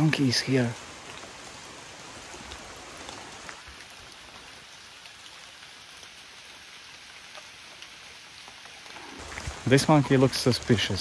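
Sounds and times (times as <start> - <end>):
rain falling on foliage: 0.0 - 11.0.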